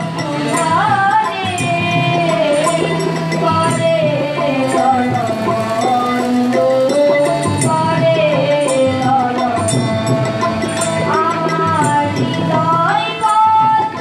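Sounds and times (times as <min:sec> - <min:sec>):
hand cymbals ticking: 0:00.0 - 0:14.0
harmonium: 0:00.0 - 0:14.0
tabla playing: 0:00.0 - 0:14.0
girl singing: 0:00.2 - 0:09.8, 0:11.2 - 0:14.0.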